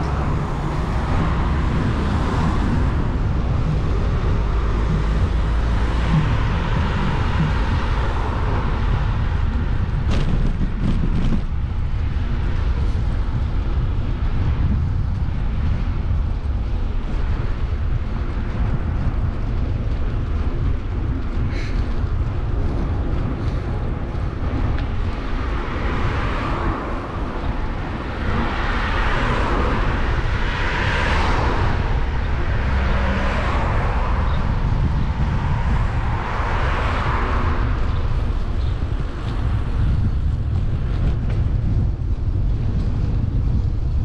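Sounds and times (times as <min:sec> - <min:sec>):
motor vehicles passing: 0:00.0 - 0:44.0
wind rumbling on microphone: 0:00.0 - 0:44.0.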